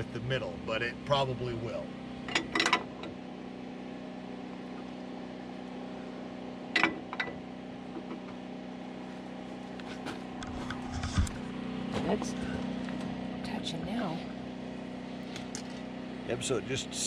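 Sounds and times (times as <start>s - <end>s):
engine idling hum: 0.0s - 17.0s.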